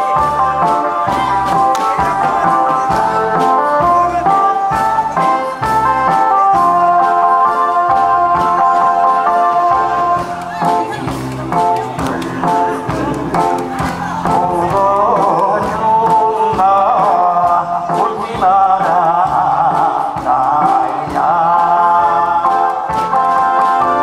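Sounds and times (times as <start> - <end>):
man singing into a microphone: 0.0 - 11.2, 12.0 - 24.0
amplified backing music with beat: 0.0 - 24.0.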